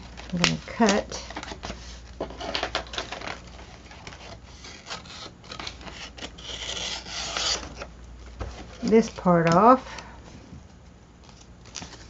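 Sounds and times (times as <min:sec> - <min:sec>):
paper rustling and scraping: 0:00.0 - 0:09.8, 0:11.2 - 0:12.0.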